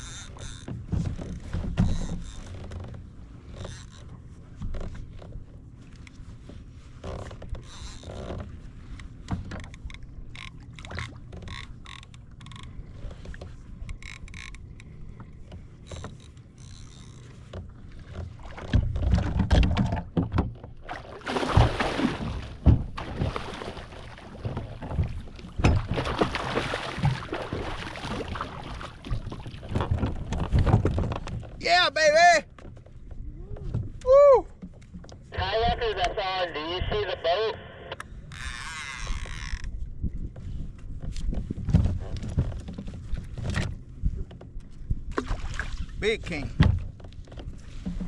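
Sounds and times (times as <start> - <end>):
water sloshing against kayak hull: 0.0 - 31.8, 38.2 - 48.0.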